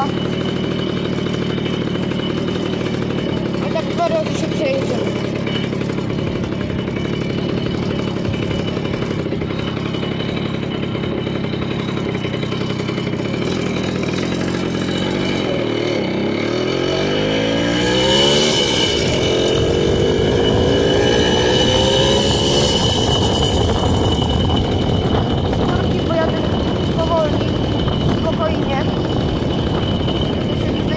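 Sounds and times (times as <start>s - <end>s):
moped two-stroke engine running: 0.0s - 30.9s.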